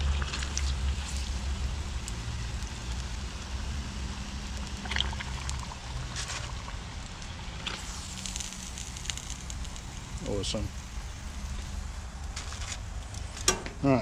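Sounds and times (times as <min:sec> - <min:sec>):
fish frying in hot oil: 0:00.0 - 0:13.4.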